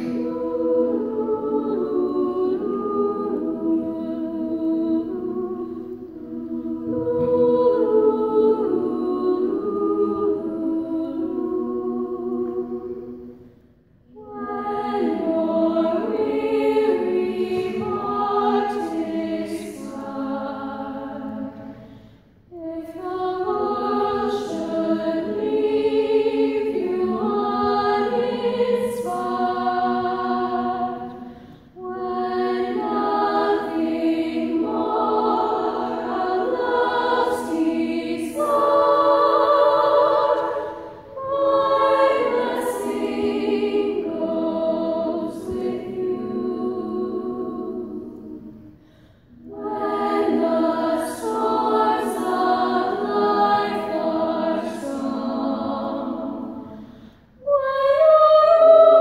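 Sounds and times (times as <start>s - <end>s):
girls' choir singing: 0.0s - 59.0s.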